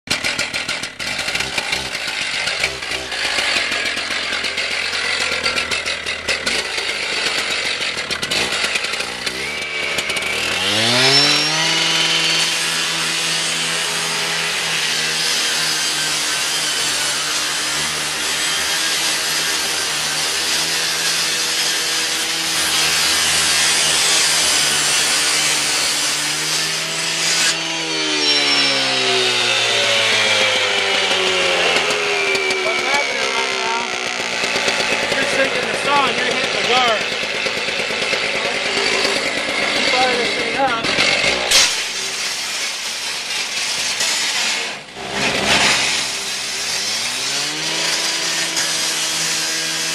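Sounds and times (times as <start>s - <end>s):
blade grinding through metal: 0.1s - 49.9s
cut-off saw engine revving: 0.1s - 49.9s.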